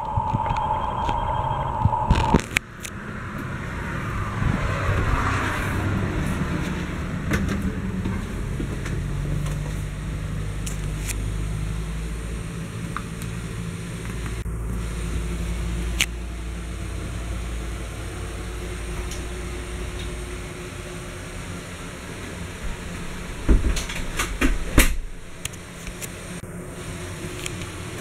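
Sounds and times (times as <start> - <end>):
low mechanical hum and rumble: 0.0 - 28.0.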